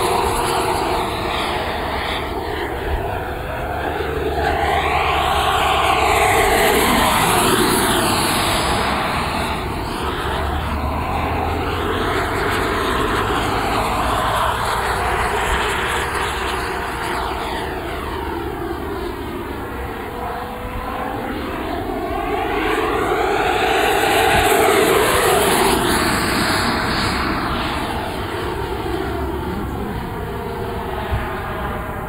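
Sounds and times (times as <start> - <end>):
electric ducted fan jet rushing past: 0.0 - 32.0.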